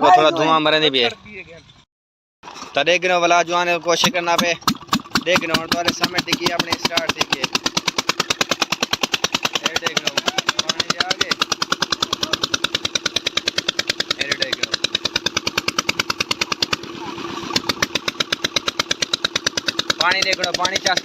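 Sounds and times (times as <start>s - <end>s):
water pump engine running: 2.8s - 21.0s.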